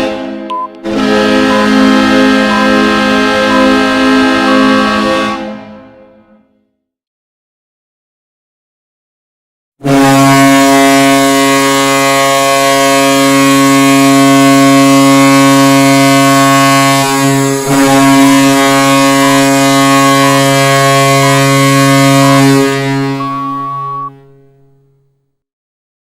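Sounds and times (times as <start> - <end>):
deep goal horn blast: 0.0 - 6.7, 9.8 - 24.6.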